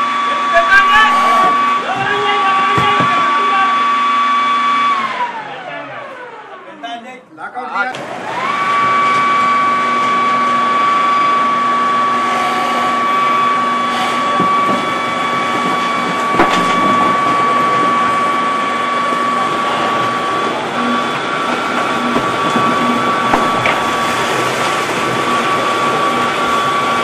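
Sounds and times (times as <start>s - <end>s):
mining machinery noise: 0.0s - 6.6s, 8.0s - 27.0s
high machine whine: 0.0s - 6.8s, 8.2s - 27.0s.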